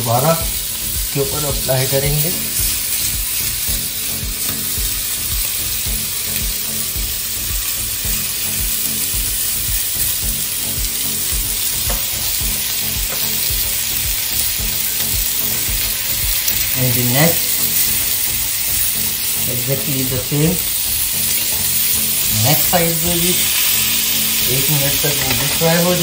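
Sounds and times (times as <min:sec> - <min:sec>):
chicken sizzling on a grill pan: 0:00.0 - 0:26.0.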